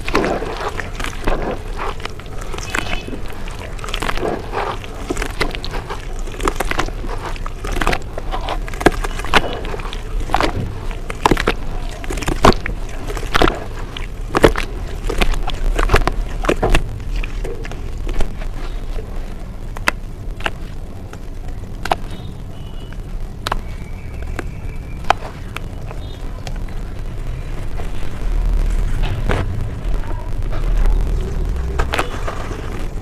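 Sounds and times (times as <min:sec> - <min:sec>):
crunchy chewing: 0:00.0 - 0:33.0
steady low hum: 0:00.0 - 0:33.0.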